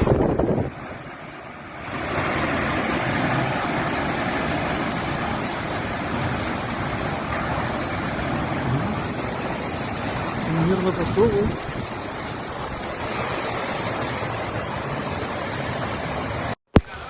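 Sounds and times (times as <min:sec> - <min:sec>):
strong wind rushing: 0:00.0 - 0:16.3.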